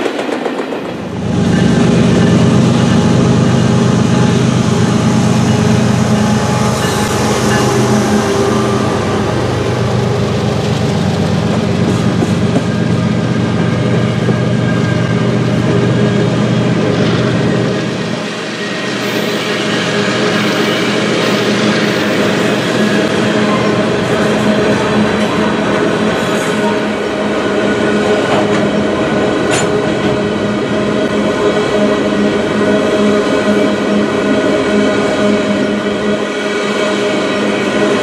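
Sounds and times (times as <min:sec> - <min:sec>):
diesel locomotive engine drone: 0:00.0 - 0:38.0
freight train rumble: 0:00.0 - 0:38.0.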